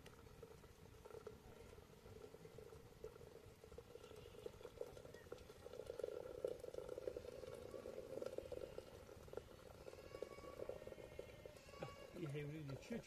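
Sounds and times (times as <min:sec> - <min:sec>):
water simmering in kettle: 0:00.0 - 0:13.0.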